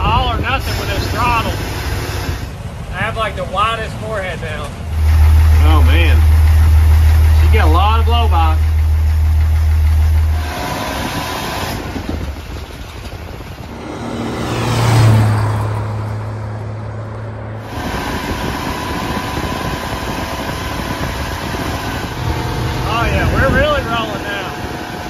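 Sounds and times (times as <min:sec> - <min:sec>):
engine running steadily: 0:00.0 - 0:25.0
vehicle passing on road: 0:00.0 - 0:25.0.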